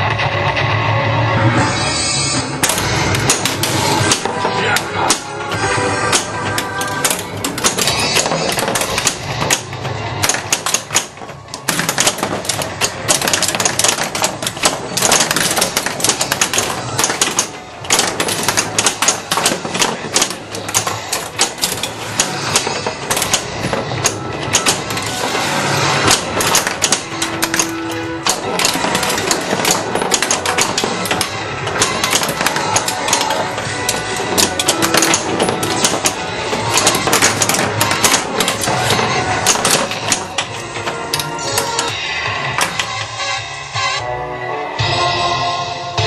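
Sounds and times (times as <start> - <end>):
pinball machine music and effects: 0.0 - 46.0
pinball flippers clacking: 2.6 - 43.4.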